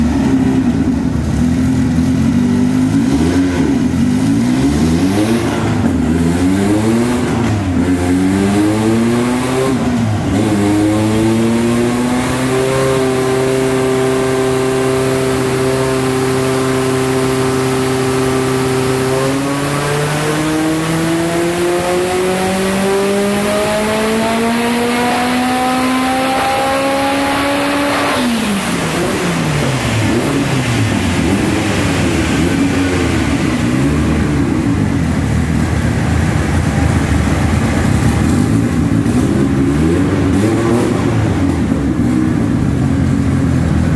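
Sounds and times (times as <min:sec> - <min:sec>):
turbocharged car engine revving: 0:00.0 - 0:43.9.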